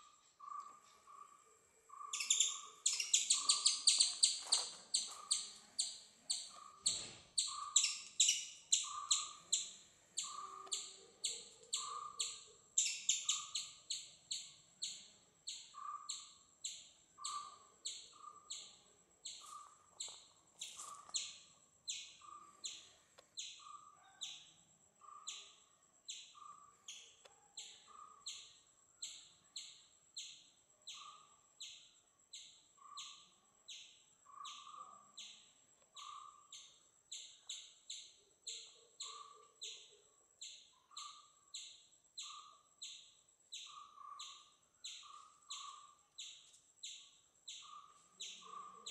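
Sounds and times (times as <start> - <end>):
rhythmic bird chirping: 0.0 - 48.9.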